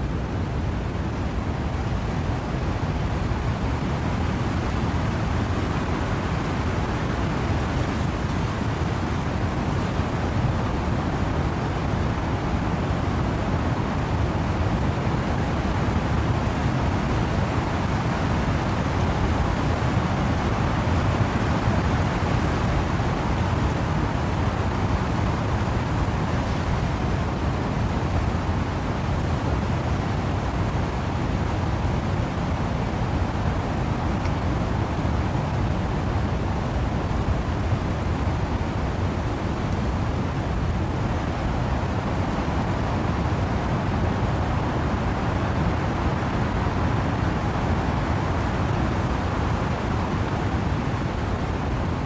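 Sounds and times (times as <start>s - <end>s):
rain: 0.0s - 52.0s
wind through trees: 0.0s - 52.0s.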